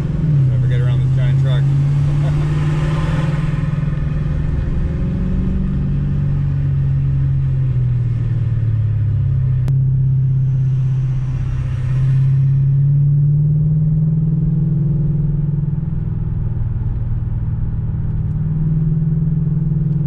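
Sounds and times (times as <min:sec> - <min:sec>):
car engine exhaust note: 0:00.0 - 0:20.0.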